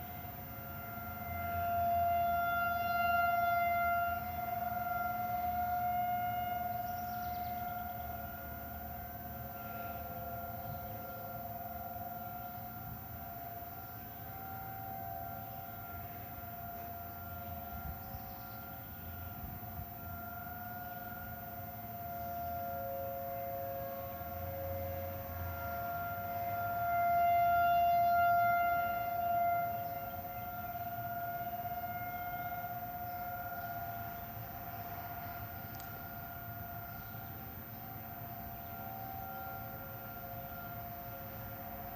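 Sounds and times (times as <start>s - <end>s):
warning sirens steady tone: 0.0s - 41.9s.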